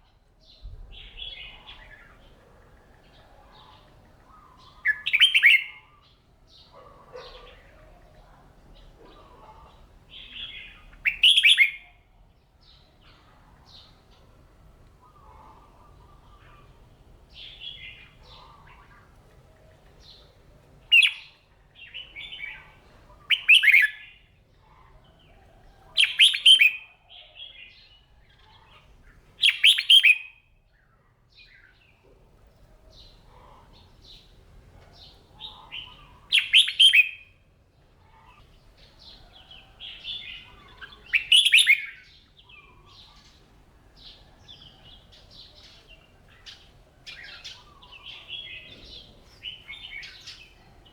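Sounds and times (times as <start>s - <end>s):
bird song phrases: 0.0s - 50.9s
soft bird chirping: 0.0s - 50.9s.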